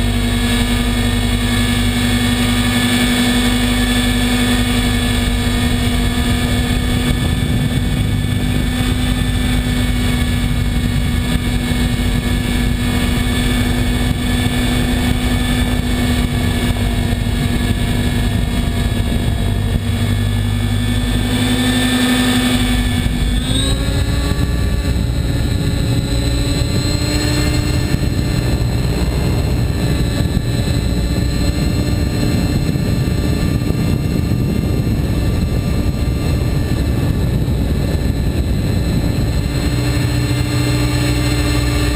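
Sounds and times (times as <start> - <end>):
high drivetrain whine: 0.0 - 41.9
rotor blades rushing: 0.0 - 41.9.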